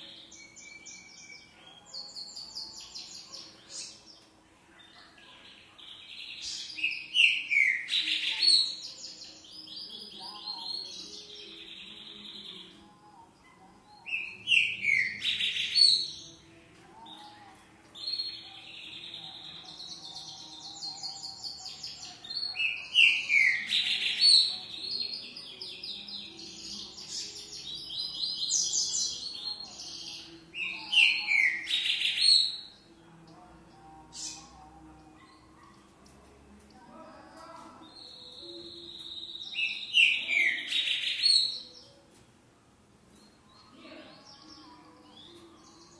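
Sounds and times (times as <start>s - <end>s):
songbird singing loud phrases: 0.0s - 36.0s, 36.7s - 42.1s, 43.1s - 45.9s.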